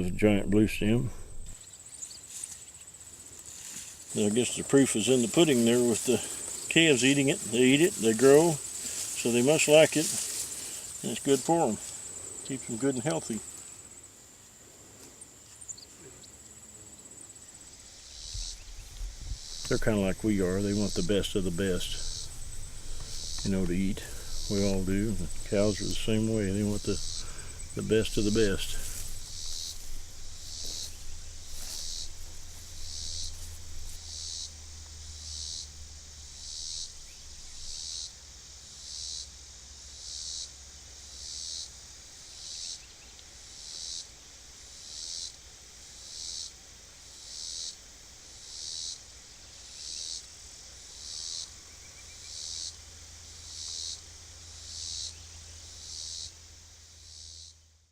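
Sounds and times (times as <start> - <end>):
insect buzzy pulse: 0.0 - 57.9.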